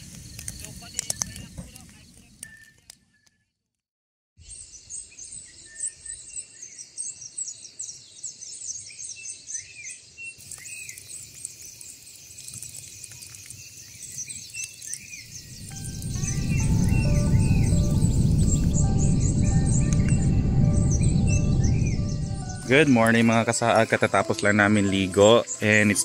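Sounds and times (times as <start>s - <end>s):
birds chirping and calling: 4.4s - 26.0s.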